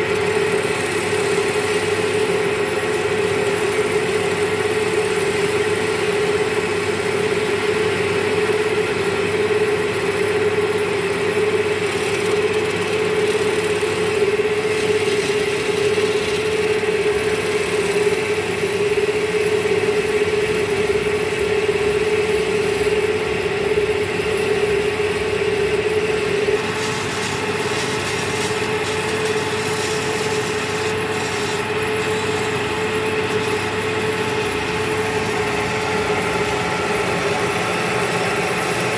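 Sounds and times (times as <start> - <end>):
chisel scraping spinning wood: 0.0 - 38.9
lathe motor hum: 0.0 - 38.9.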